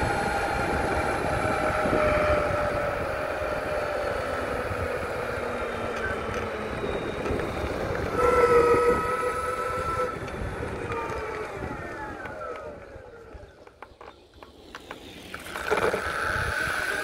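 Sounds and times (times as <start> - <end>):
electric motors whining: 0.0 - 17.0
tyres rumbling: 0.0 - 17.0
wind: 0.0 - 17.0.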